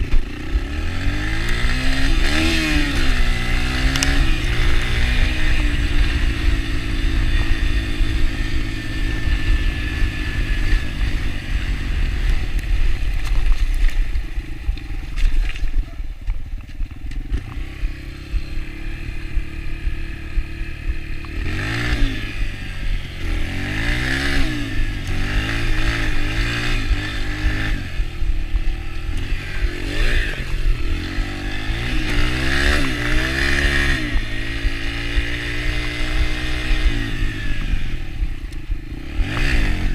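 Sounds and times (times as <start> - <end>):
dirt bike engine revving: 0.0 - 15.8, 16.9 - 39.9
heavy low rumble: 0.0 - 39.9.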